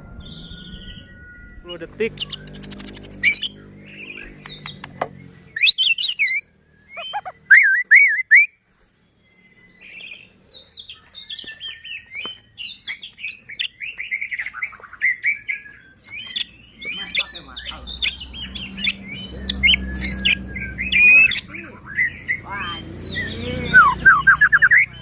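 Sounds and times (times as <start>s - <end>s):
bird singing whistles and chatter: 0.0s - 25.0s.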